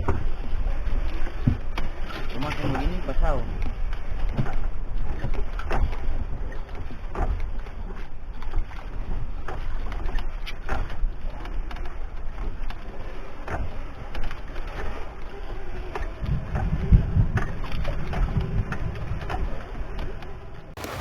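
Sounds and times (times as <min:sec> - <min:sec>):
wind and water against hull: 0:00.0 - 0:21.0.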